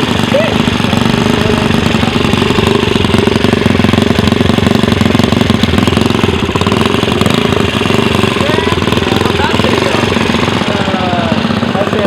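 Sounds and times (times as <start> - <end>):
small engine idling with rattle: 0.0 - 12.0.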